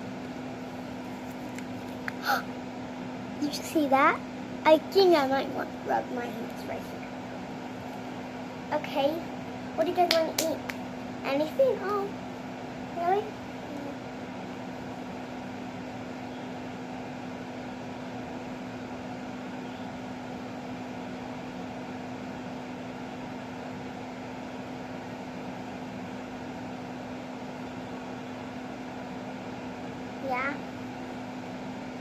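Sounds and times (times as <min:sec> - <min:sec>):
steady machine hum with hiss: 0:00.0 - 0:32.0.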